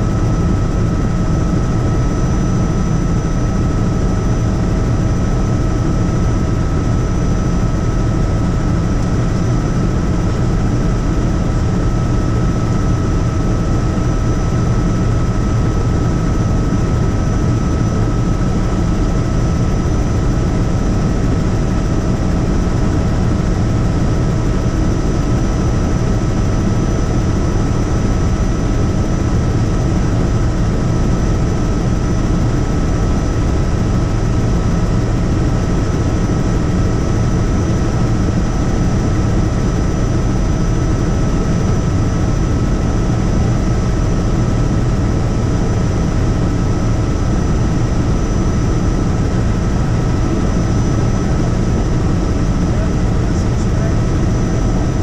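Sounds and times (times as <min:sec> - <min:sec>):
helicopter engine and rotors drone: 0:00.0 - 0:55.0
thin steady whine: 0:00.0 - 0:55.0.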